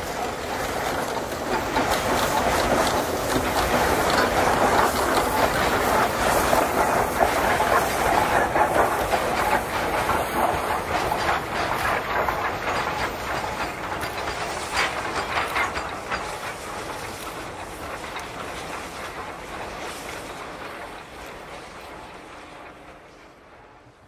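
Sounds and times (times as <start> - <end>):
train wheels clicking over rail joints: 0.0 - 24.0.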